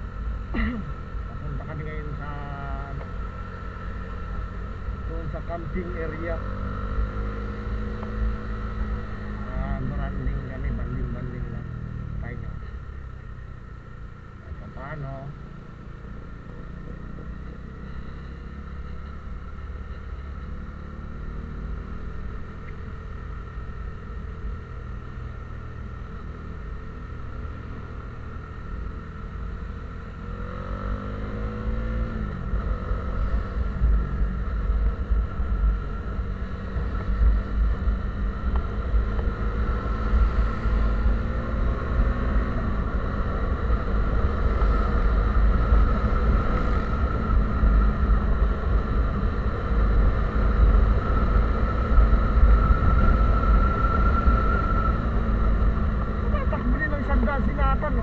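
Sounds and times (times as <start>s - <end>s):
vehicle engine running: 0.0s - 58.0s
wind and road noise rumble: 0.0s - 58.0s.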